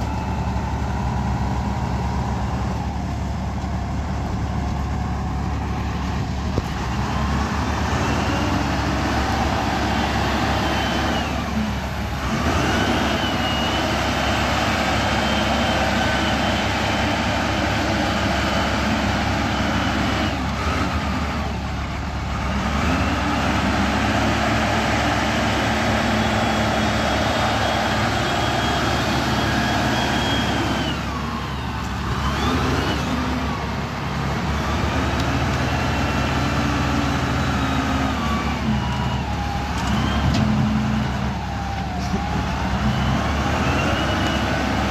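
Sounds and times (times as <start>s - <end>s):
wheel loader diesel engine revving: 0.0s - 44.9s.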